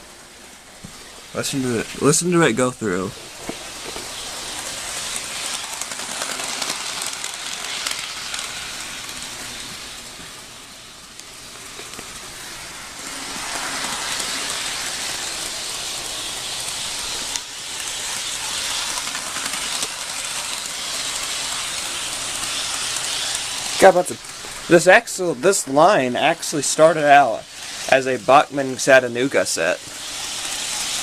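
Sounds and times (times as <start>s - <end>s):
model train wheels rattling: 0.4s - 31.0s.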